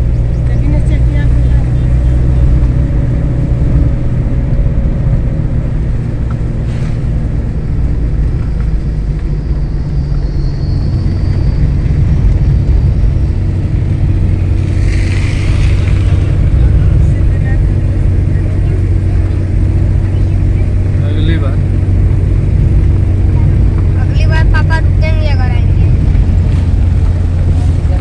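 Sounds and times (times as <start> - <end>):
engine rumbling: 0.0 - 28.0.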